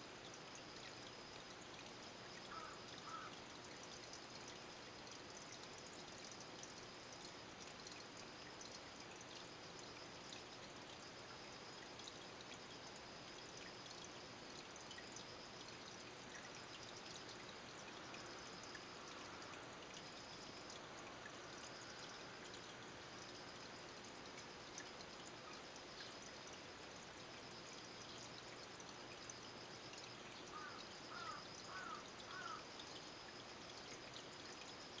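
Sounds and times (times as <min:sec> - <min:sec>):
aquarium filter water trickle: 0:00.0 - 0:35.0.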